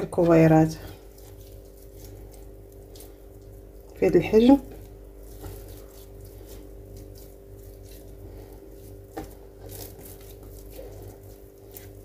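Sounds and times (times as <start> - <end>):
dough squishing: 0.0 - 12.0
light pats on dough: 0.0 - 12.0
steady low hum: 0.0 - 12.0.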